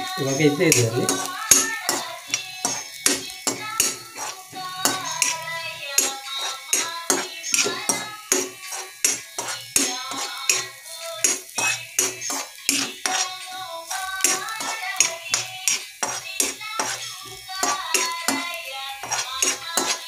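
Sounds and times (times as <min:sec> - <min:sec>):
food frying in hot oil: 0:00.0 - 0:20.0
spatula scraping and clinking pan: 0:00.0 - 0:20.0.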